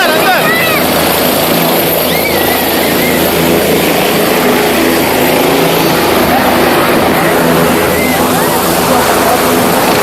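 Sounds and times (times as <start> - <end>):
helicopter engine and rotor: 0.0 - 10.0.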